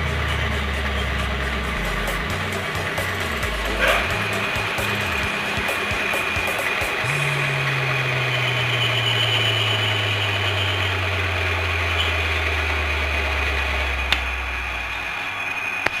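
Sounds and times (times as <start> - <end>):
electric motor spinning down: 0.0 - 15.3.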